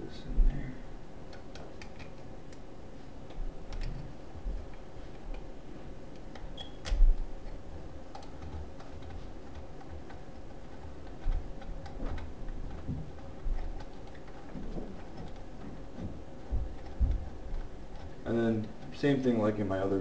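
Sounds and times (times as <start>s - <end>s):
clicks and knocks of wiring: 1.3s - 2.6s, 3.2s - 5.5s, 6.1s - 19.0s.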